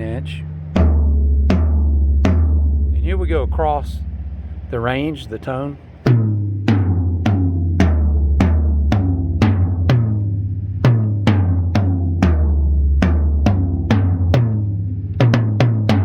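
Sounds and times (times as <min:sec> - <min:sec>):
tom-tom drum hits: 0:00.0 - 0:05.2, 0:06.0 - 0:16.0.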